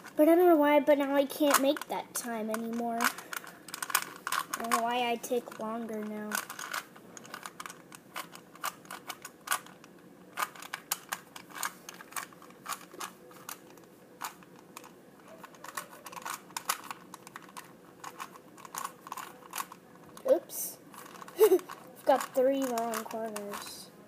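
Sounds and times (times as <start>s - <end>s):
plastic puzzle cube layers clicking: 1.5s - 1.9s, 2.5s - 23.8s.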